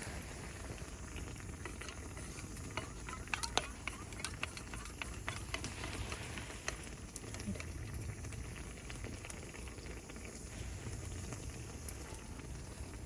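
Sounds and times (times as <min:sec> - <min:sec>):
food simmering in an iron pan: 0:00.0 - 0:13.0.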